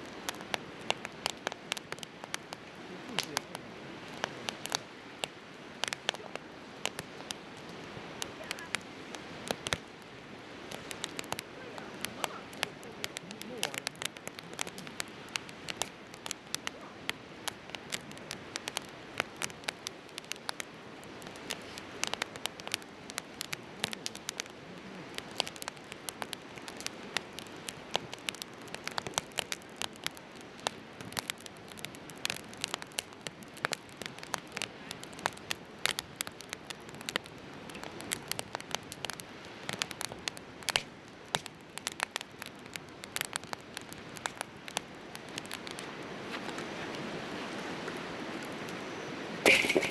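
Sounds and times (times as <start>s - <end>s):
firewood crackling and popping: 0.0s - 49.9s.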